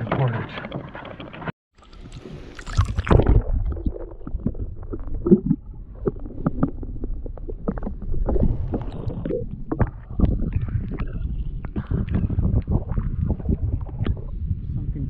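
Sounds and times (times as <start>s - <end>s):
low rumble: 2.8s - 15.0s.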